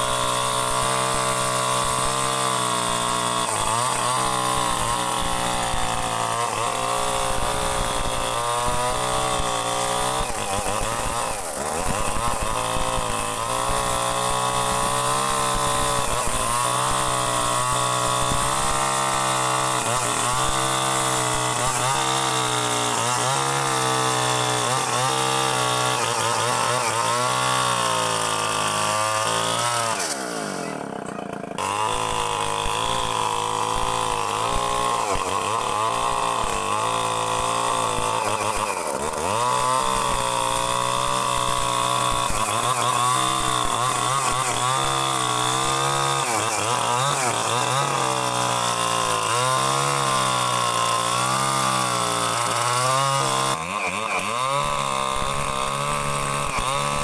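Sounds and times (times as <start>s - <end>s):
chainsaw running at high revs: 0.0s - 57.0s.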